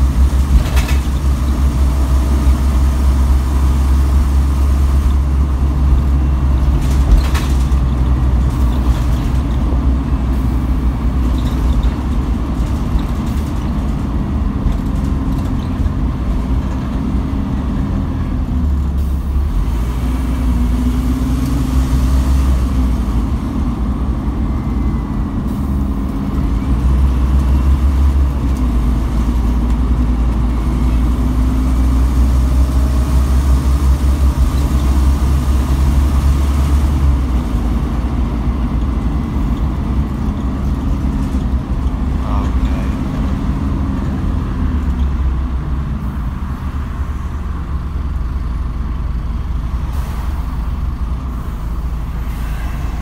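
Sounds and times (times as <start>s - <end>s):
bus diesel engine rumble: 0.0s - 53.0s.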